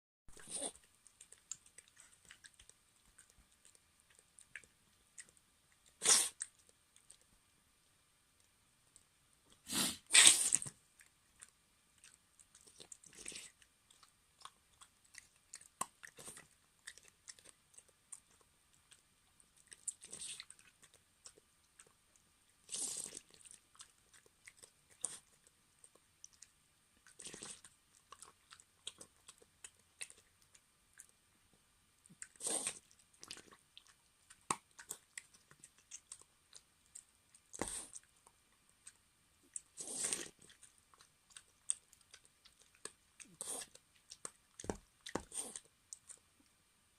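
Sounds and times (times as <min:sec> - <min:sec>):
dog chewing and crunching: 0:00.3 - 0:07.3, 0:10.2 - 0:31.2, 0:32.0 - 0:46.4.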